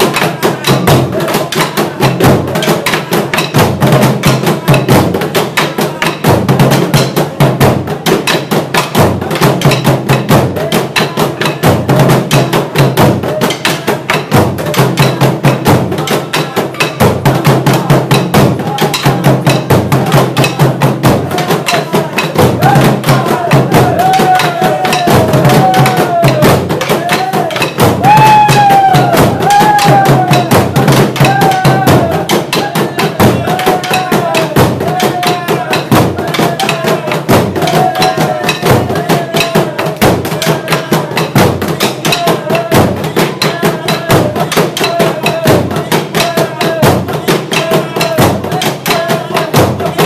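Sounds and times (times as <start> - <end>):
person chanting: 0.0 - 3.5, 10.1 - 50.0
drums beaten with sticks: 0.0 - 50.0.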